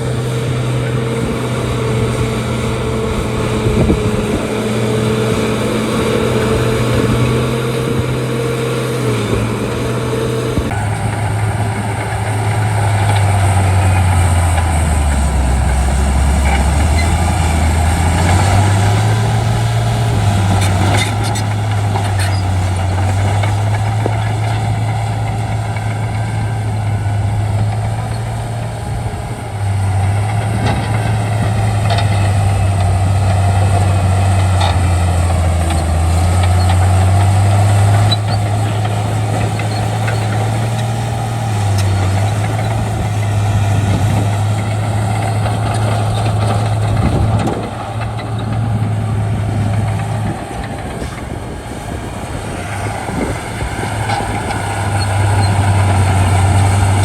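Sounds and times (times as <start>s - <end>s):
bulldozer diesel engine working: 0.0s - 57.0s.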